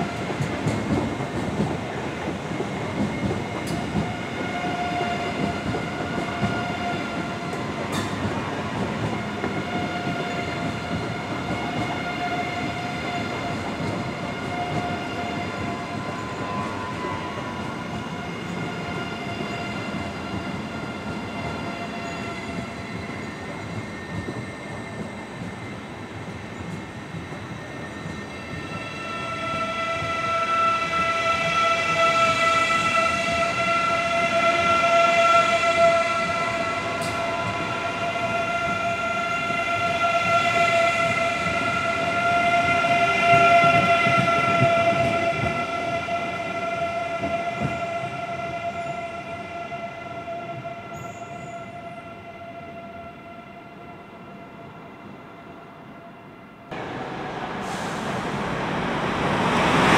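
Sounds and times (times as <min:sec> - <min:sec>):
train rumbling past: 0:00.0 - 0:49.6, 0:56.7 - 0:59.9.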